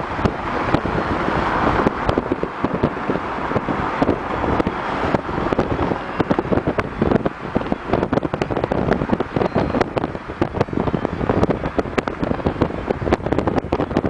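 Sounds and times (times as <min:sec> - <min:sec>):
car road and engine noise: 0:00.0 - 0:14.0
wind buffeting microphone: 0:00.0 - 0:14.0.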